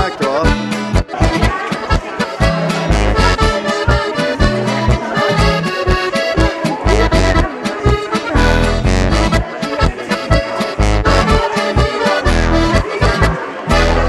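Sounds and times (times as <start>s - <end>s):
folk music with accordion: 0.0s - 14.0s.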